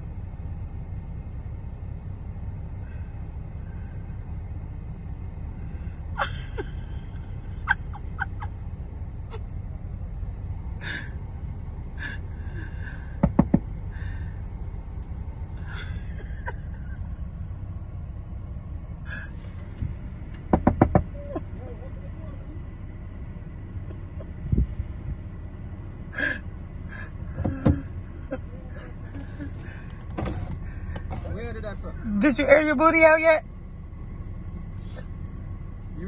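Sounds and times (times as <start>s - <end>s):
car engine rumble inside cabin: 0.0s - 36.0s.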